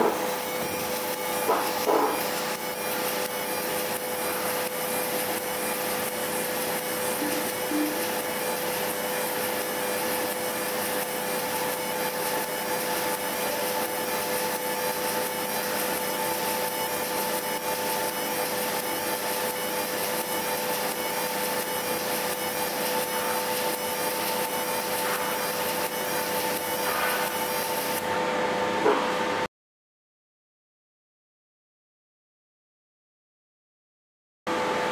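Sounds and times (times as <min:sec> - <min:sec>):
laser hissing on metal: 0:00.0 - 0:28.0.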